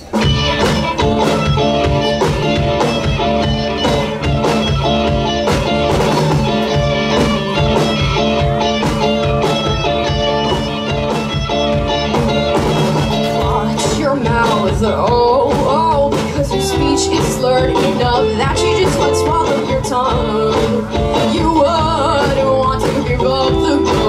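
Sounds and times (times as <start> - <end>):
drum kit beat: 0.0 - 24.0
electric bass: 0.0 - 24.0
electric guitars: 0.0 - 24.0.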